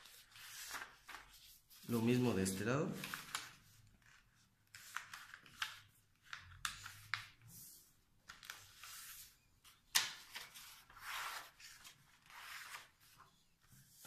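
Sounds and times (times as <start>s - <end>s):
paper rustling and crackling: 0.0s - 7.5s, 8.2s - 14.0s.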